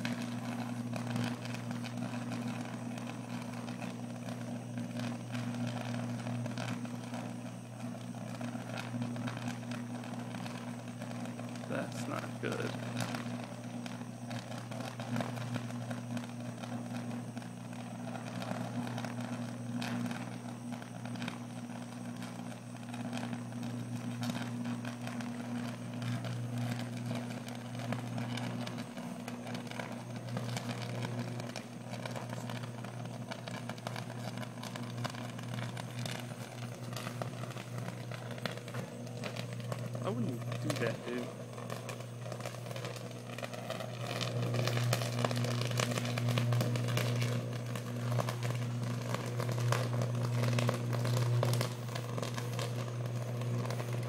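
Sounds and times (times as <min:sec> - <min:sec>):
electric arc crackling: 0:00.0 - 0:54.0
low electrical buzz: 0:00.0 - 0:54.0.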